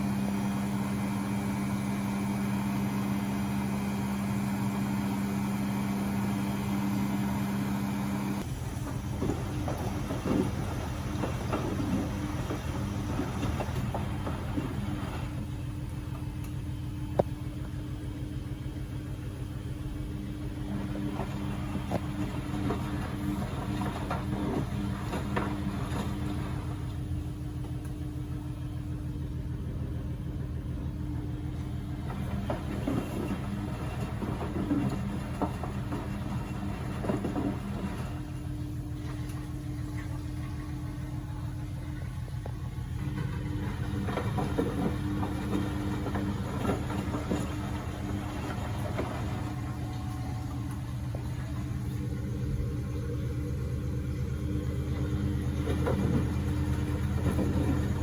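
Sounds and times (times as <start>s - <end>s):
washing machine drum humming: 0.0s - 58.0s.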